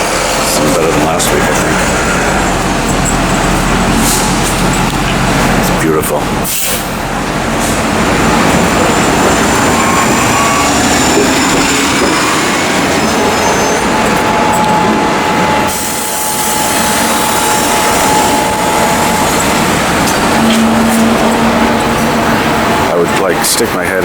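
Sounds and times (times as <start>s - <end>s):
heavy city traffic: 0.0s - 24.0s
steady whine: 0.0s - 24.0s.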